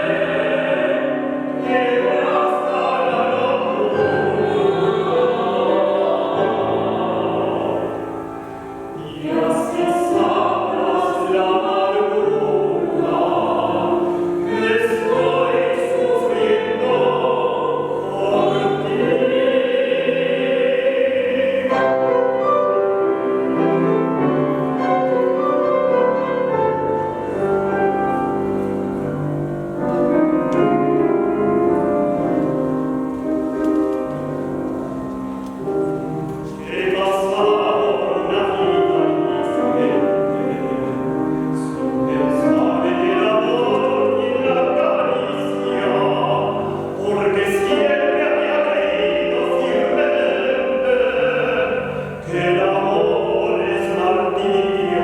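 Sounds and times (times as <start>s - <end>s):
choir singing: 0.0s - 55.0s
piano accompaniment: 0.0s - 55.0s.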